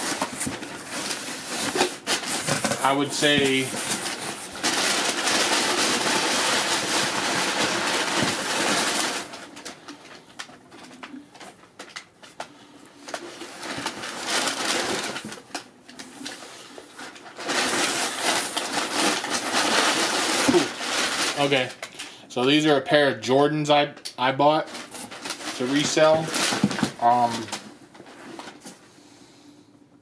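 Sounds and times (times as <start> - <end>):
packing material rustling: 0.0 - 22.2, 24.5 - 28.8.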